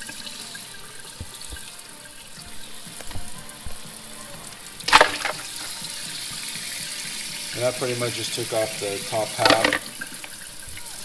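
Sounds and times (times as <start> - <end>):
faucet running into sink: 0.0 - 11.0.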